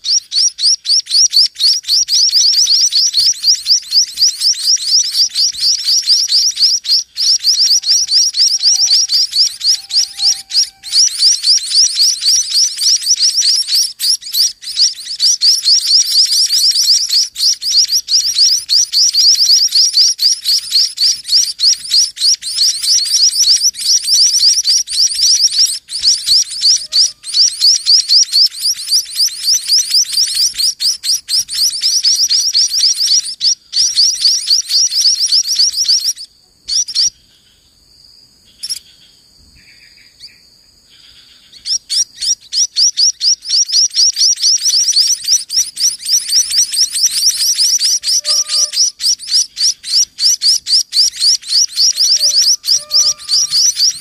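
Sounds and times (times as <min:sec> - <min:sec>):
nestlings begging chirps: 0:00.0 - 0:37.7, 0:38.3 - 0:54.0.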